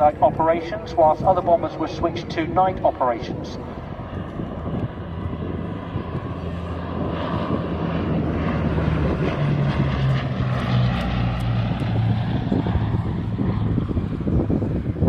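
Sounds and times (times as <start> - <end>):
propeller plane flying past: 0.0 - 15.0.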